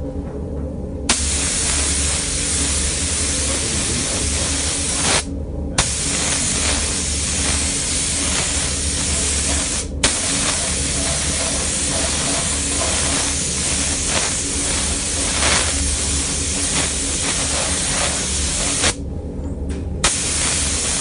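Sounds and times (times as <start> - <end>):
steady low hum: 0.0 - 21.0
paint spray gun hissing: 1.1 - 19.0, 20.0 - 21.0.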